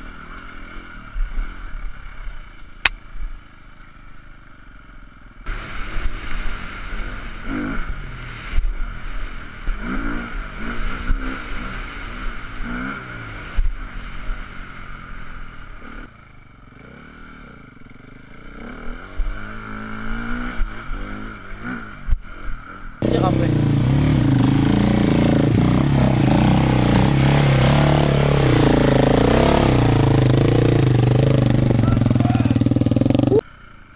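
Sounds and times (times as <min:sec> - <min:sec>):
motorcycle engine revving: 0:04.6 - 0:33.4.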